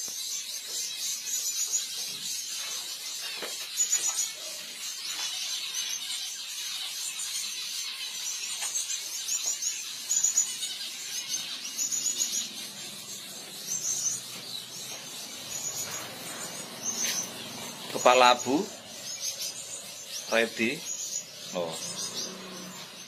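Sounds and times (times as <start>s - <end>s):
finches chirping: 0.0s - 23.0s.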